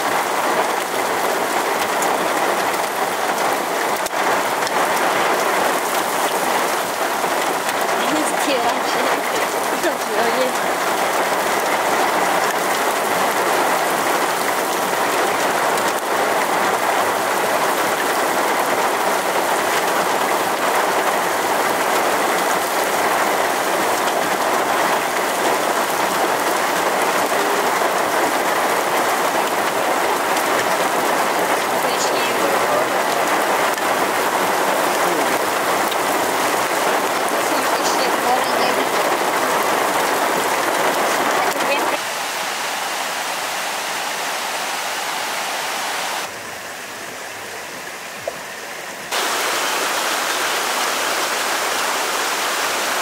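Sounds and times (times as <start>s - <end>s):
heavy rain on gravel and grass: 0.0s - 53.0s.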